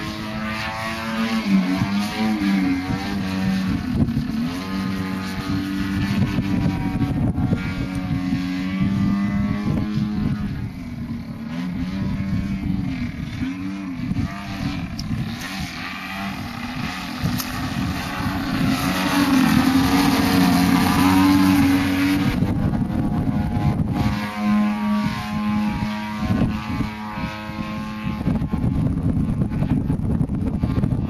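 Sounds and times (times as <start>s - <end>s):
model airplane engine in flight: 0.0s - 31.0s.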